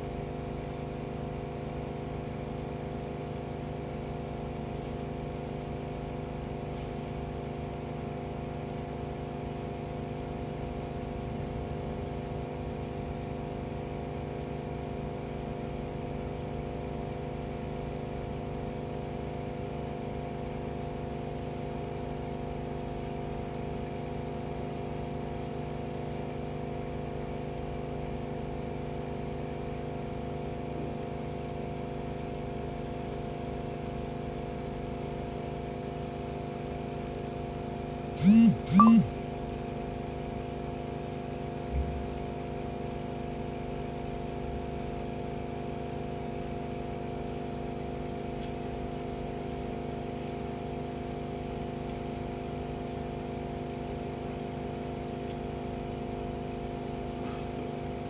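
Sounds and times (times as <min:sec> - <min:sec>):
aquarium pump humming: 0:00.0 - 0:58.0.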